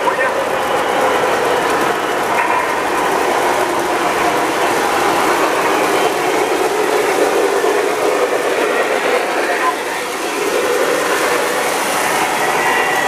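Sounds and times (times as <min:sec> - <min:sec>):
model train wheels clattering: 0:00.0 - 0:13.0.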